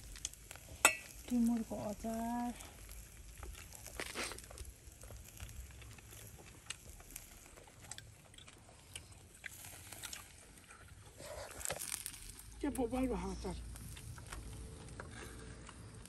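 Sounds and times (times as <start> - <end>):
small clicks and crackles: 0.0 - 16.0.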